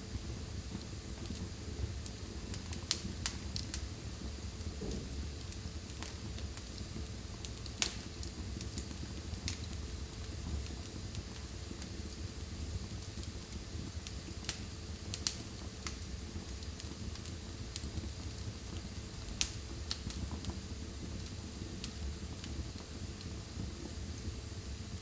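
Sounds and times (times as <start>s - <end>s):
fire rumbling: 0.0s - 25.0s
wood fire crackling and popping: 0.1s - 25.0s.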